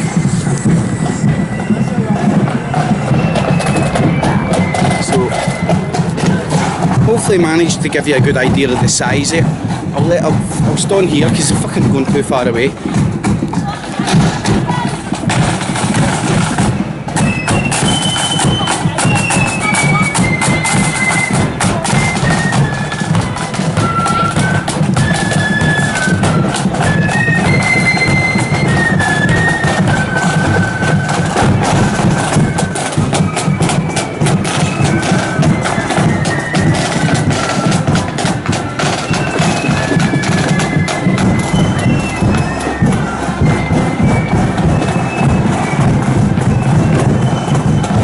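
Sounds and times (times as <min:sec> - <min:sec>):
bass drums: 0:00.0 - 0:48.0
high piping melody: 0:00.0 - 0:48.0
snare drums: 0:00.0 - 0:48.0.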